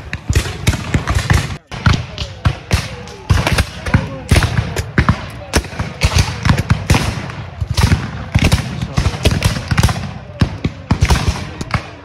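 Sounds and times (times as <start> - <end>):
rifle volley firing: 0.0 - 12.0.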